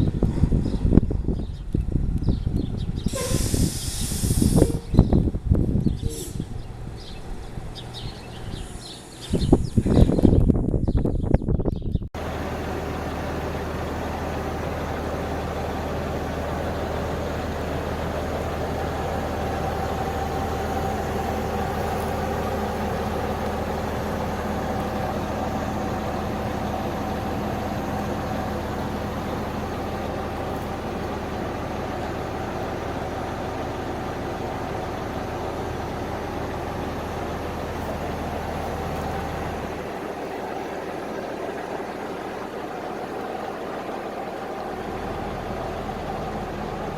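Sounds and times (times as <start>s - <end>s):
bus diesel engine idling: 0.0s - 10.2s, 12.2s - 46.9s.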